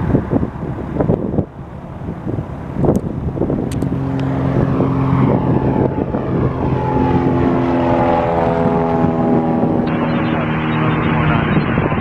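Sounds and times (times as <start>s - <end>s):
small plane engine droning overhead: 0.0s - 12.0s.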